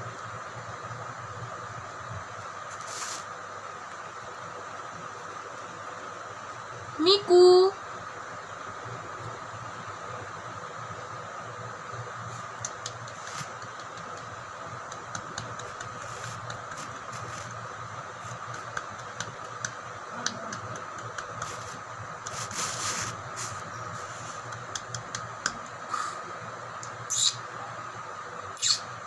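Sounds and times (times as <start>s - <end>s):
low hum and hiss: 0.0s - 29.0s.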